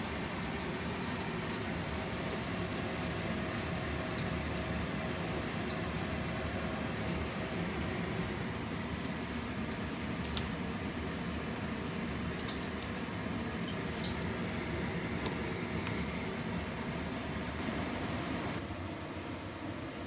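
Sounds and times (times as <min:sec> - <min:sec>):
hot oil sizzling and bubbling: 0:00.0 - 0:18.6.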